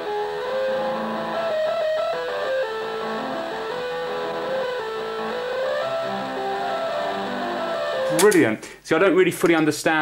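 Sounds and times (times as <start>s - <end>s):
distorted guitar music from speaker: 0.0s - 8.4s.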